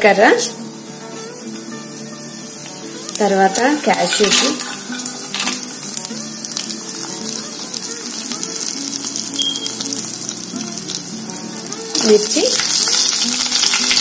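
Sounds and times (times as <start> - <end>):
nuts frying with crackling sizzle: 0.0 - 14.0
soft background music: 0.0 - 14.0
chillies dropping into hot oil: 2.6 - 14.0.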